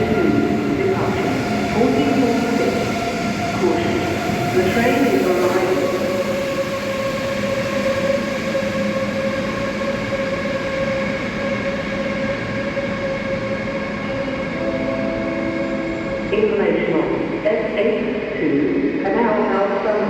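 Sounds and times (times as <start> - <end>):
electric train whine: 0.0 - 20.0.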